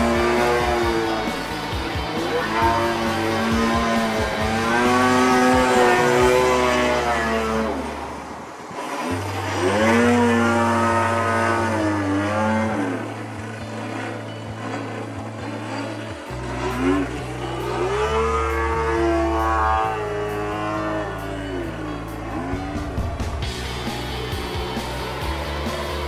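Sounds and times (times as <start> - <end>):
model plane engine buzzing: 0.0 - 26.0.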